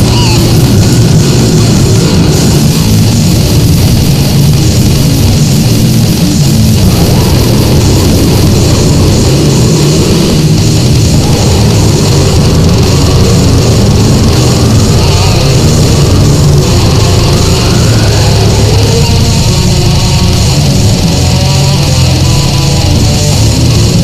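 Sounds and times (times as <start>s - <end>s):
heavy metal music: 0.0s - 24.0s.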